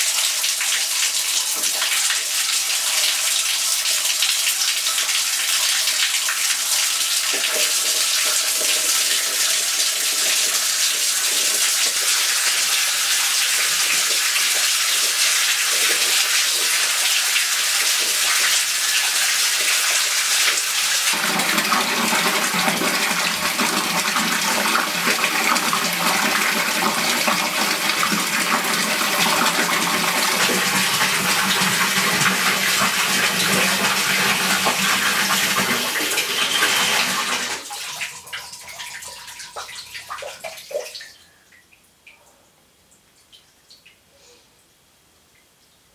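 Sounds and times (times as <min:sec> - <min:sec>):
tap water running into tub: 0:00.0 - 0:41.2.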